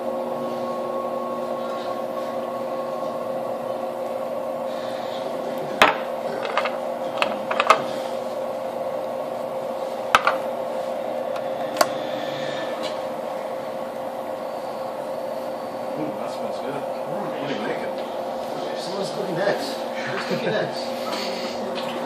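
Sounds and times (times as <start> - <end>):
pizza oven humming: 0.0 - 22.0.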